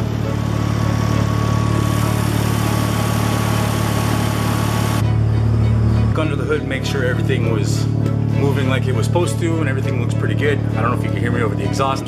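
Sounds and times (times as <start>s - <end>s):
rotary engine idling: 0.0s - 12.0s.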